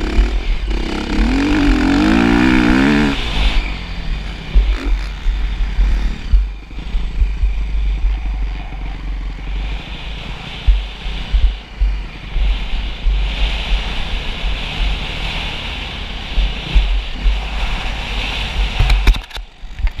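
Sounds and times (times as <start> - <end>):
low buffeting thumps: 0.0 - 15.6, 16.3 - 17.8
wind rushing over microphone: 0.0 - 20.0.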